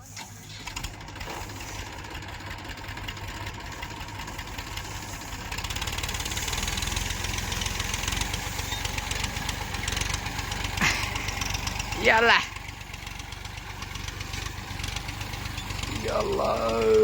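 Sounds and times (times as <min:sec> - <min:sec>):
tractor engine knocking: 0:00.0 - 0:17.0.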